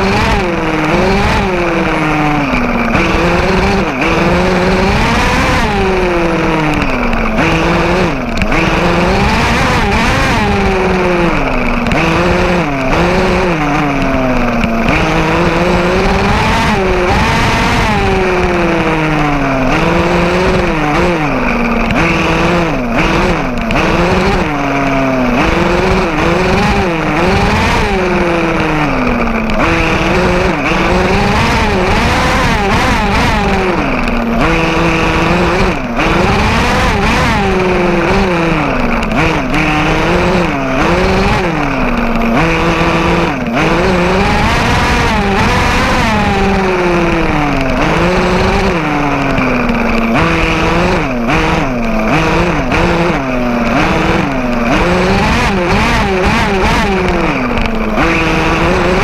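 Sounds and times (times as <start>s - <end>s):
drivetrain rattle over grass: 0.0s - 59.0s
small gas engine revving: 0.0s - 59.0s.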